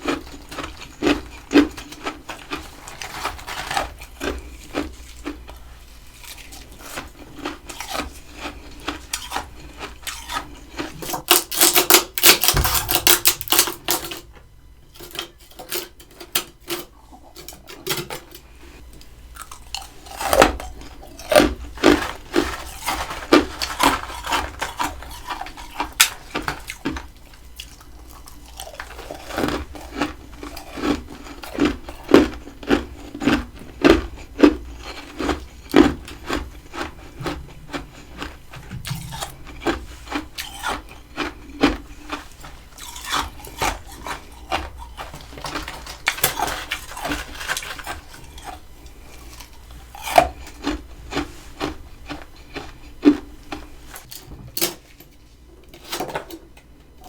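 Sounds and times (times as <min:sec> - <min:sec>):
chewing crunchy frost: 0:00.0 - 0:54.2.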